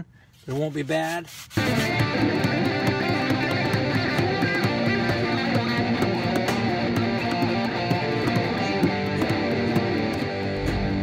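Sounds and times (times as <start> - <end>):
guitar and bass music: 1.6 - 11.0.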